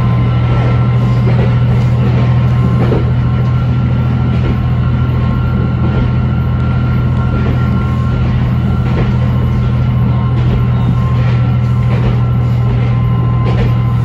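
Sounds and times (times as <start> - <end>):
train engine drone: 0.0 - 14.0
wheels running on rails: 0.0 - 14.0.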